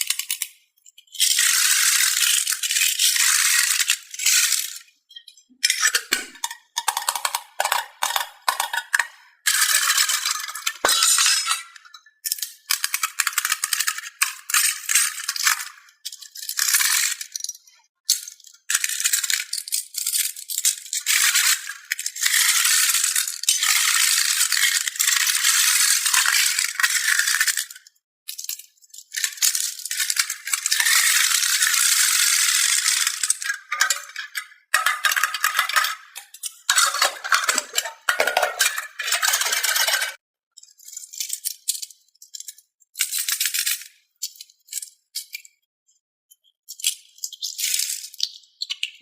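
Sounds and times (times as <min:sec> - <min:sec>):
plastic balls clattering: 0:00.0 - 0:04.9, 0:05.6 - 0:40.2.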